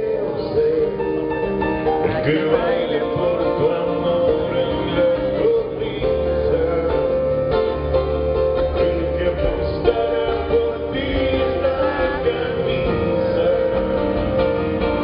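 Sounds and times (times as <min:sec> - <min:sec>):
steady bass line: 0:00.0 - 0:15.0.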